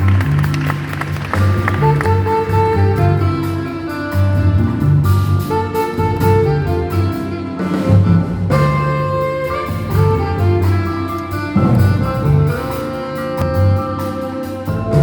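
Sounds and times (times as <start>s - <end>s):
double bass line: 0.0s - 15.0s.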